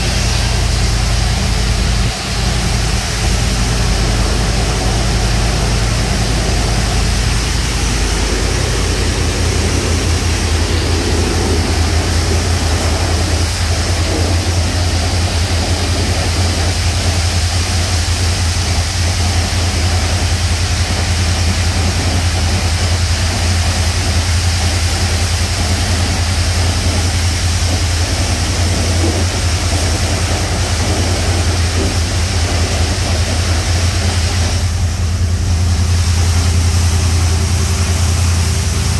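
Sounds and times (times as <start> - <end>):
high-pressure water spray hissing: 0.0 - 38.9
low drone: 0.0 - 38.9.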